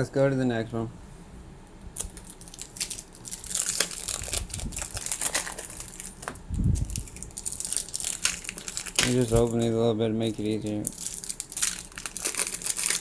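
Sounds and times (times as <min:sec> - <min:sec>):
foil wrapper crinkling and tearing: 0:02.0 - 0:13.0.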